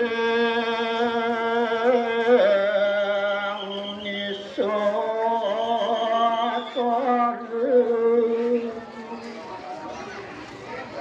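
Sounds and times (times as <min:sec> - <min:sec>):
man chanting in long notes: 0:00.0 - 0:09.2.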